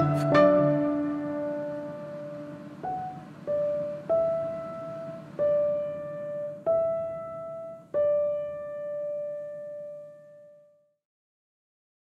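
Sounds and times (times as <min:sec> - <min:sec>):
slow solo piano notes: 0:00.0 - 0:10.8.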